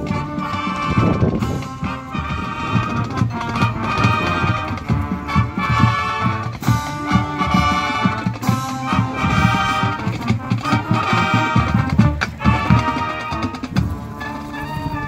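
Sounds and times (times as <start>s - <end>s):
marching band brass: 0.0s - 15.0s.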